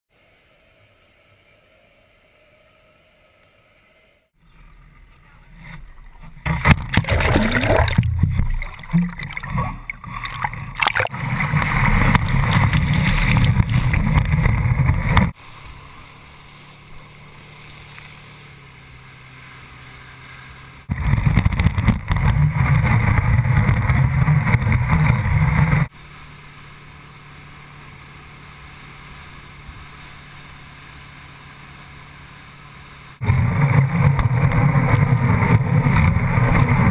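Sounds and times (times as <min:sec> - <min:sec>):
boat engine drone: 0:00.1 - 0:36.9
water rushing and spraying: 0:06.5 - 0:36.9.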